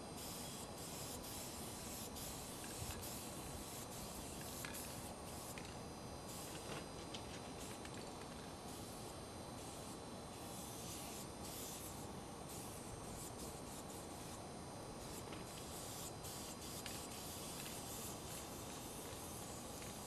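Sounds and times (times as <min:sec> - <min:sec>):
spray paint can hissing: 0:00.2 - 0:20.0.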